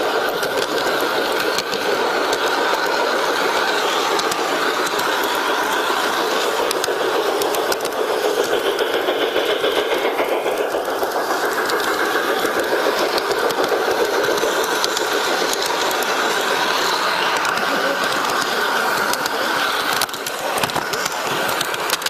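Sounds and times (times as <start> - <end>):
model train rattling on track: 0.0 - 22.0.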